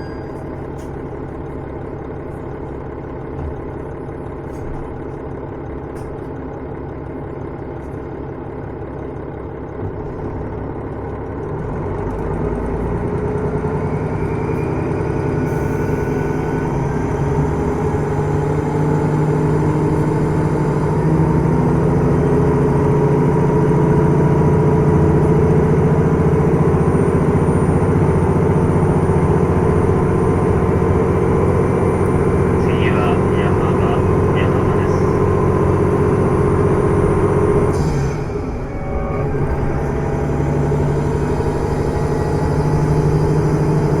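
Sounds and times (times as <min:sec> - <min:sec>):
railcar diesel engine running: 0:00.0 - 0:44.0.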